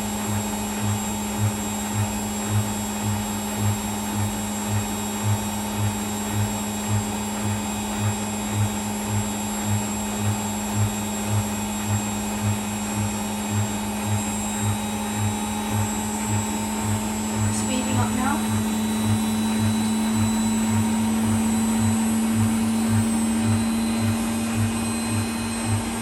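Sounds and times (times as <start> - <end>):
washing machine motor hum and whine: 0.0 - 26.0.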